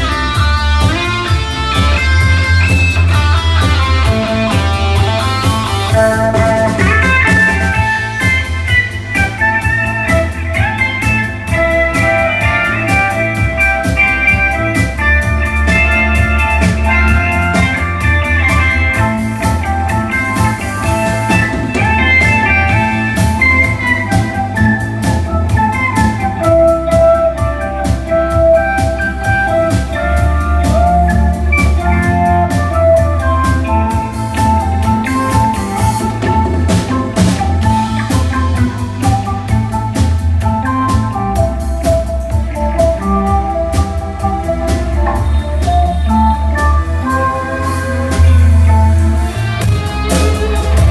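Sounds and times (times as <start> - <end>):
drum kit steady beat: 0.0 - 50.9
live band music: 0.0 - 50.9.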